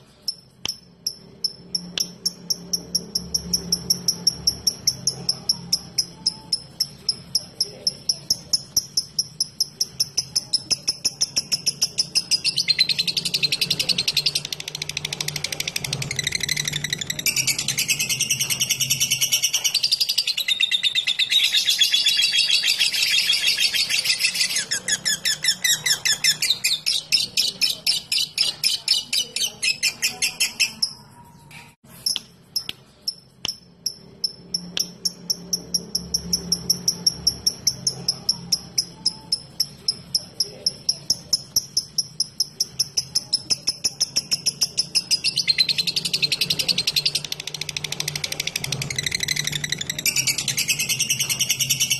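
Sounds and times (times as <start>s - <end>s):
rapid repeated bird chirps: 0.0s - 51.9s.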